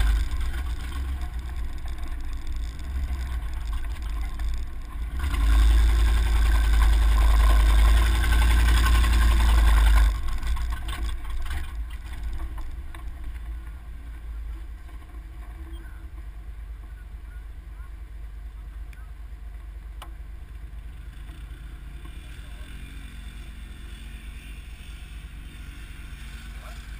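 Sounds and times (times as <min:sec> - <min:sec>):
truck engine: 0:00.0 - 0:26.9.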